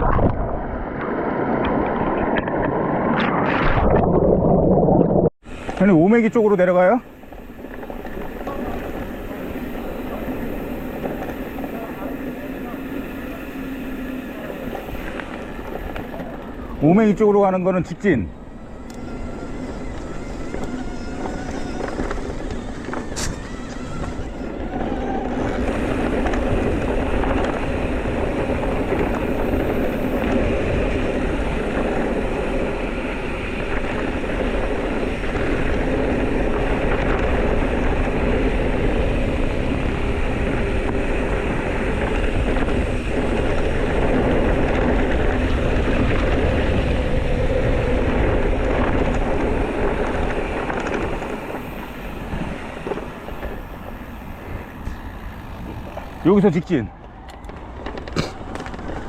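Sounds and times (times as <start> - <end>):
bike tyre rumble on trail: 0.0 - 59.0
wind buffeting: 0.0 - 59.0.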